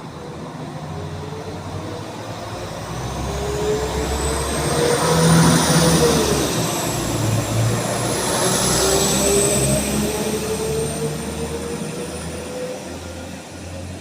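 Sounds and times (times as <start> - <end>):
diesel train engine accelerating: 0.0 - 14.0.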